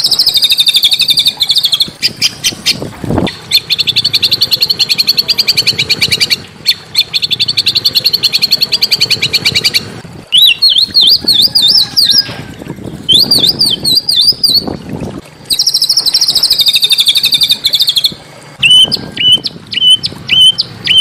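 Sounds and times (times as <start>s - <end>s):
songbird trilling and whistling: 0.0s - 12.3s, 13.0s - 14.7s, 15.5s - 21.0s.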